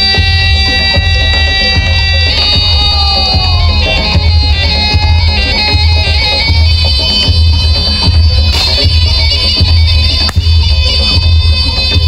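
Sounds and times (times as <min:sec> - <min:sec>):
droning reed-horn melody: 0:00.0 - 0:12.0
heavy low drum beat: 0:00.0 - 0:12.0.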